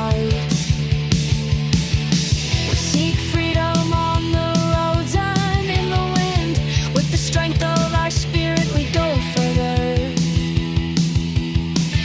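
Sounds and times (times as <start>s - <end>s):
distorted electric guitar: 0.0s - 12.0s
fast driving drums: 0.0s - 12.0s.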